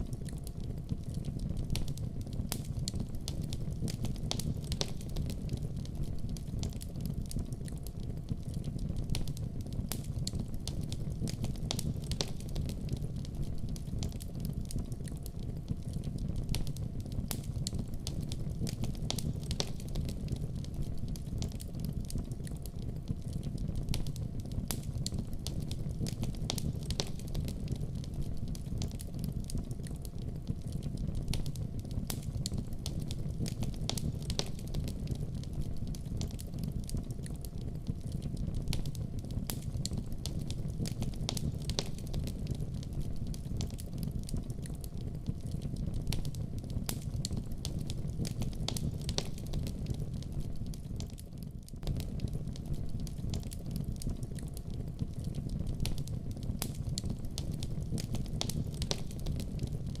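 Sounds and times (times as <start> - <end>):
fire crackling: 0.0 - 60.0
fire rumbling: 0.0 - 60.0.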